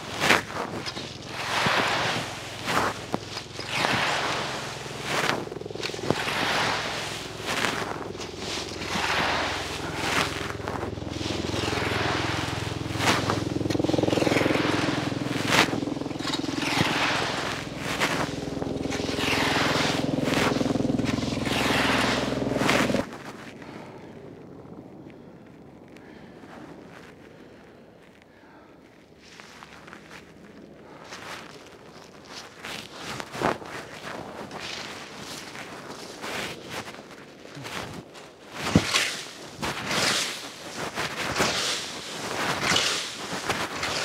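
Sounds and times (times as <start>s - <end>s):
rake scraping dry leaves: 0.0s - 23.4s, 31.1s - 44.0s
steady engine hum: 0.0s - 44.0s.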